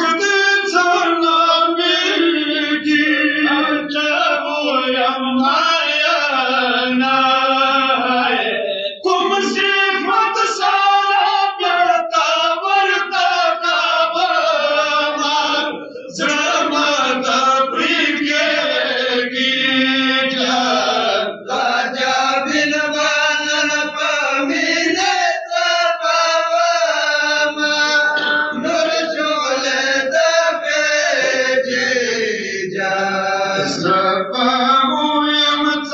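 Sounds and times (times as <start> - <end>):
men chanting a lament: 0.0 - 35.9.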